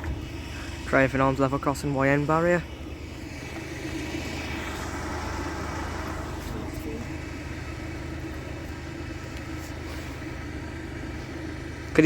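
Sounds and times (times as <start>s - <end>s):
vehicles idling rumble: 0.0s - 12.0s.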